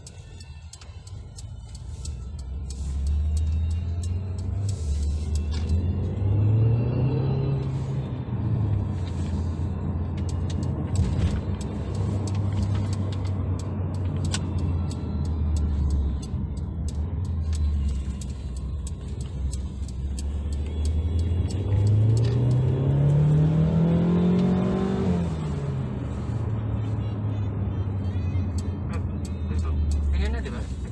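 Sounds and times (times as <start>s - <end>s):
car engine humming: 0.0s - 30.9s.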